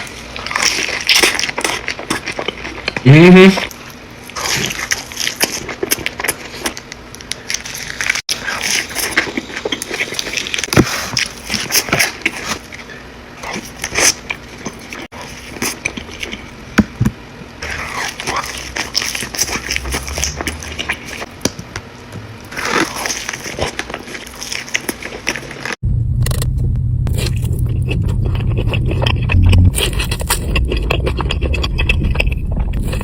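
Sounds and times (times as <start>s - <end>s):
crunchy biting and chewing: 0.0s - 17.0s, 17.6s - 21.4s, 22.5s - 26.5s, 27.1s - 33.0s.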